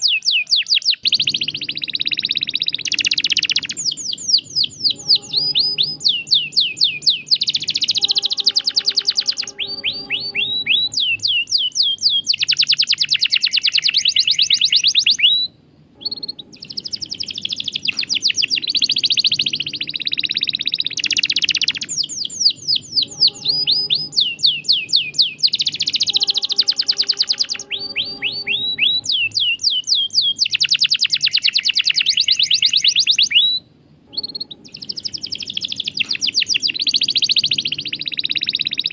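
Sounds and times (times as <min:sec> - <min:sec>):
canary singing in trills: 0:00.0 - 0:38.9.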